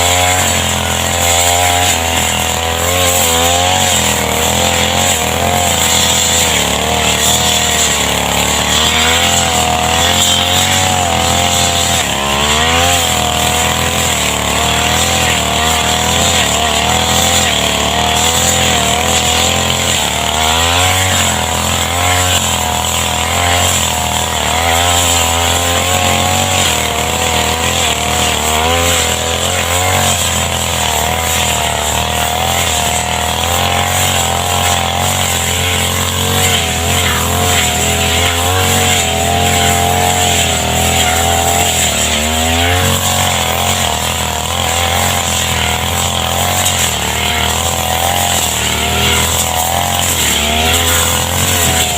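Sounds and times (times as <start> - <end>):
two-stroke grass cutter engine: 0.0 - 51.9.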